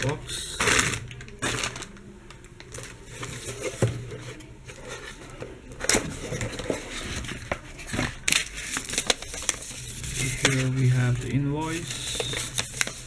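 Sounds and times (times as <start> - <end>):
soft paper rustling: 0.0 - 13.0.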